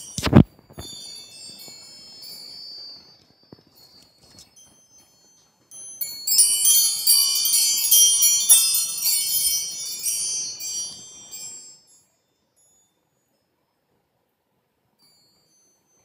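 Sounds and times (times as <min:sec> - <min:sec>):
metal wind chime ringing: 0:00.0 - 0:13.9, 0:15.0 - 0:16.0.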